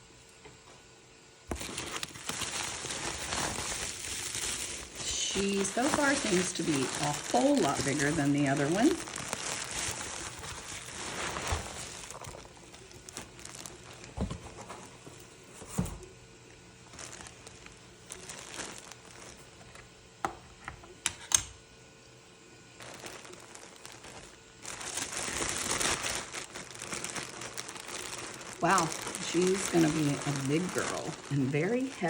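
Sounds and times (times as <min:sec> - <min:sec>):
packaging crinkling: 0:01.5 - 0:16.2, 0:16.8 - 0:20.0, 0:22.7 - 0:32.0.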